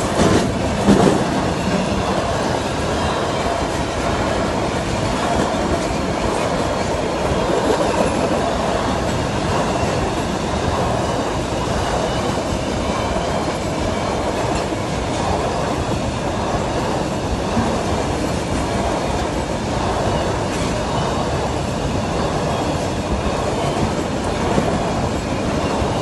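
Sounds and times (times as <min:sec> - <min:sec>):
freight train wagons rolling: 0:00.0 - 0:26.0.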